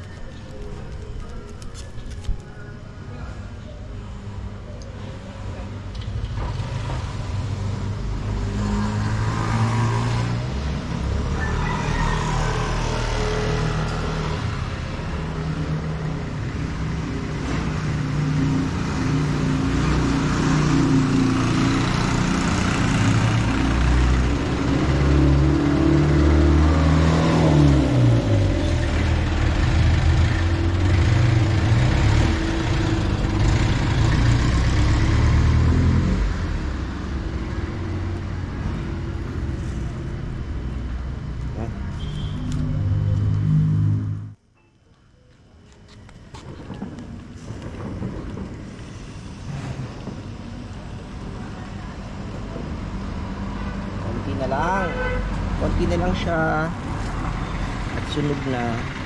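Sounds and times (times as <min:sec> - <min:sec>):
vehicle engines running: 0:00.0 - 0:44.4, 0:45.5 - 0:59.0.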